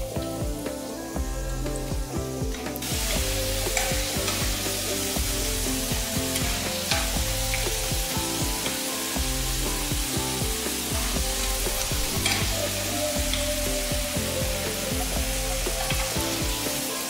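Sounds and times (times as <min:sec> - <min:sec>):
background music with held notes: 0:00.0 - 0:17.0
potatoes sizzling in hot oil: 0:00.0 - 0:17.0.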